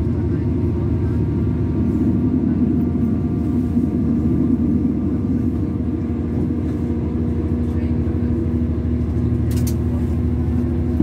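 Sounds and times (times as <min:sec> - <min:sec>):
diesel engine drone: 0:00.0 - 0:11.0
train running gear rumble: 0:00.0 - 0:11.0.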